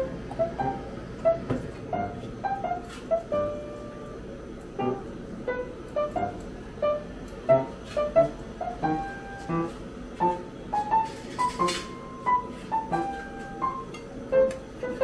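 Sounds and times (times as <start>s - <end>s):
light piano melody: 0.0s - 15.0s.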